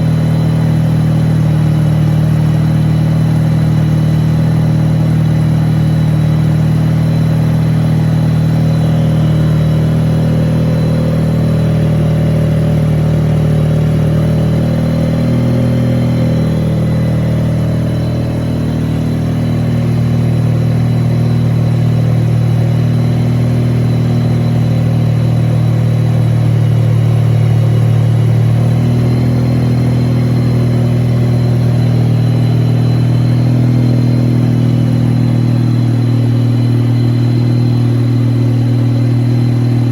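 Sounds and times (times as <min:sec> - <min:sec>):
rotary engine running: 0:00.0 - 0:39.9.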